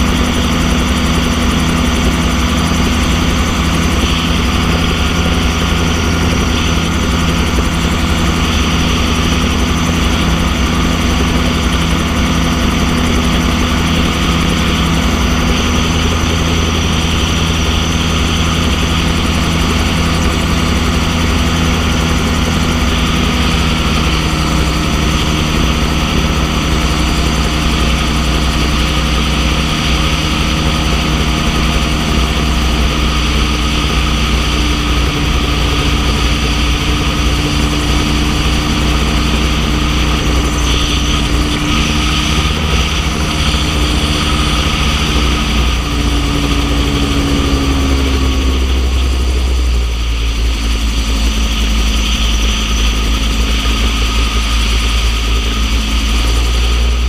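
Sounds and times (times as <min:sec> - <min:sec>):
gyrocopter engine and propeller: 0:00.0 - 0:57.0
wind noise on microphone: 0:00.0 - 0:57.0.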